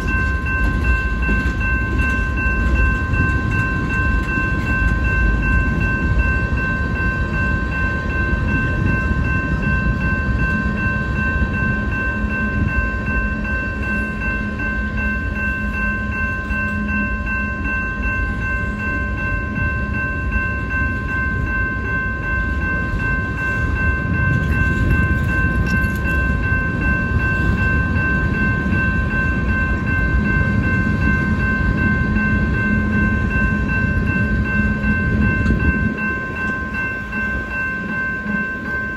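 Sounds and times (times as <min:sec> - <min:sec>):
crossing bell ringing: 0:00.0 - 0:38.9
train wheels rumbling on rails: 0:00.0 - 0:38.9.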